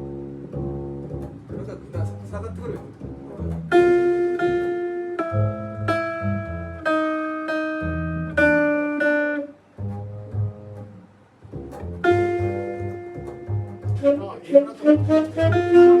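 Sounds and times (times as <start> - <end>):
guitar chords: 0.0 - 16.0
low bass notes: 0.0 - 16.0.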